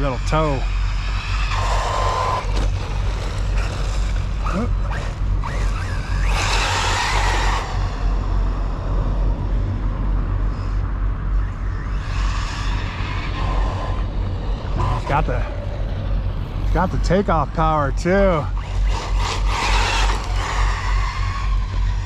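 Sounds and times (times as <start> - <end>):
low rumble: 0.0 - 22.0
rc car motor whine: 0.0 - 22.0
rc car passing: 0.0 - 22.0.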